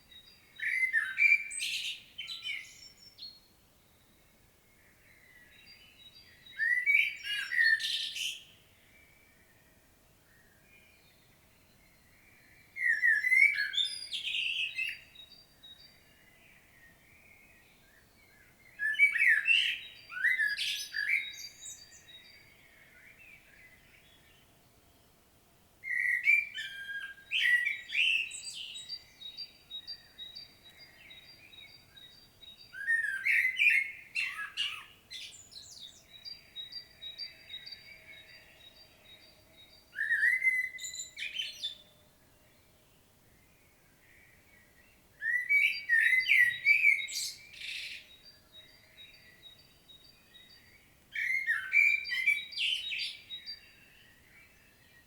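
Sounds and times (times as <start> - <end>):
blackbird singing: 0.0 - 3.4, 4.8 - 9.2, 10.3 - 24.4, 25.8 - 42.7, 43.3 - 55.0.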